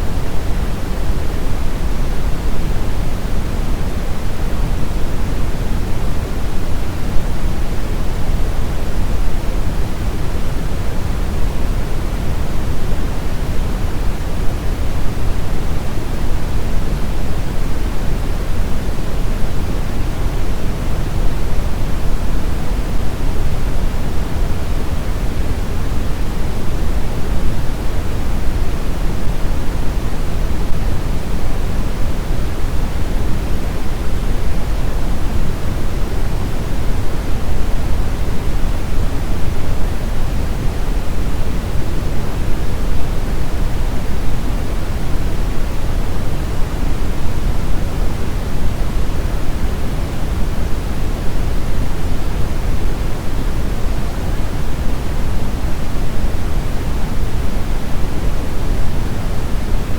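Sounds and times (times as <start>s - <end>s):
brown noise: 0.0s - 59.9s.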